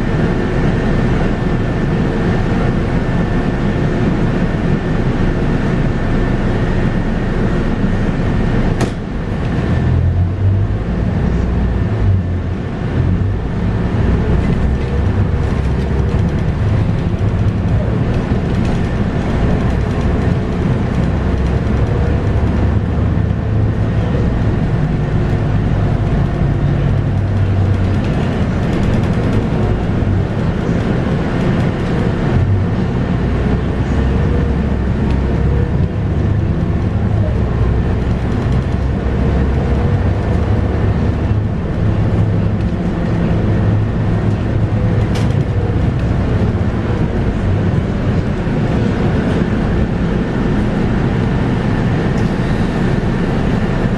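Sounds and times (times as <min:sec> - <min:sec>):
bus diesel engine droning: 0:00.0 - 0:53.9
road noise: 0:00.0 - 0:53.9.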